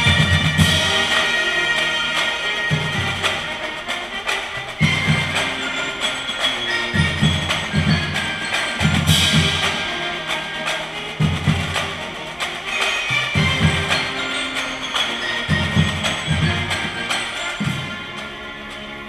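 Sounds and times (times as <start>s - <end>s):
percussion beat: 0.0s - 19.0s
wind and bell melody: 0.0s - 19.0s.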